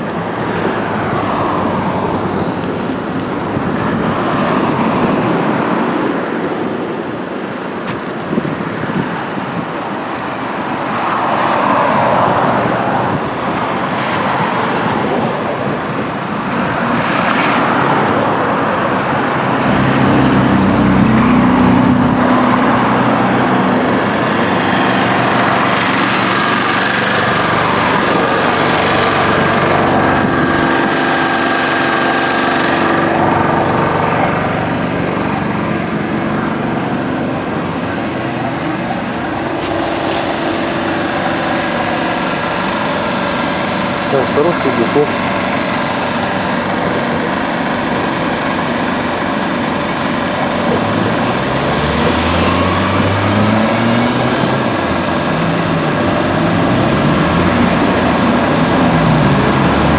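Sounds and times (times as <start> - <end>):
tram motor whining: 0.0 - 7.8, 8.6 - 59.9
road traffic noise: 0.0 - 59.9.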